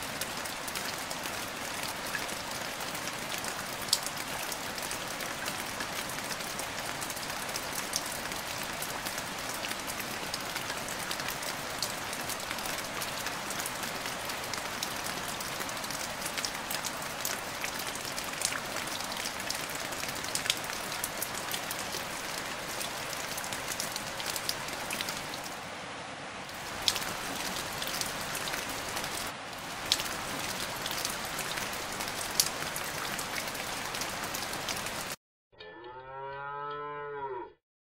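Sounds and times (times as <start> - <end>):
rain hissing on water: 0.0 - 35.2.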